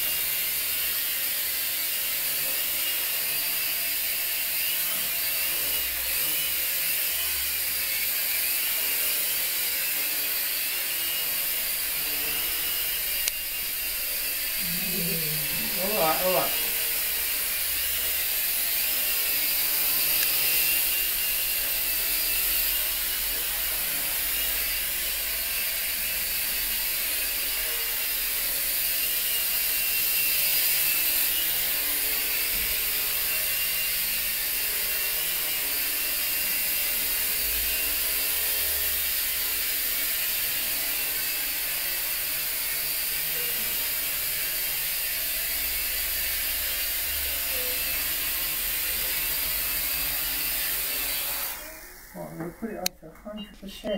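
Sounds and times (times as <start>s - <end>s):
quadcopter propellers buzzing: 0.0s - 52.9s.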